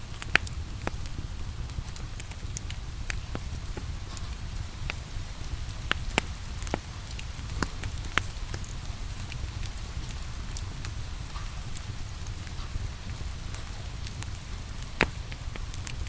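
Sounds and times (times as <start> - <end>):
steady rain: 0.0 - 16.0
wood fire crackling and popping: 0.0 - 16.0.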